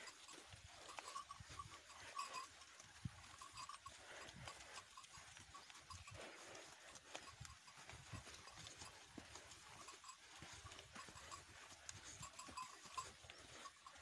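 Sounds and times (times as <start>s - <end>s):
hooves plodding on soft soil: 0.0s - 14.0s.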